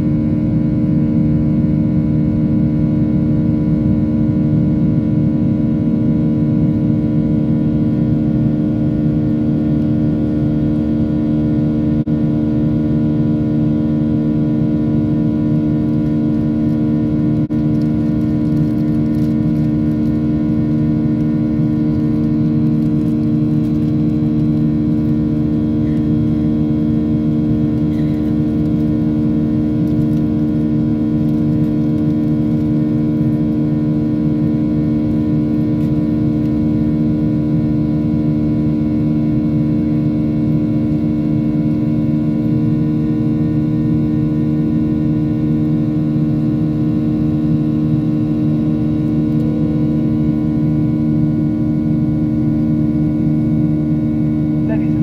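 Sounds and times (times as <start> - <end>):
jet engine drone: 0.0 - 55.0.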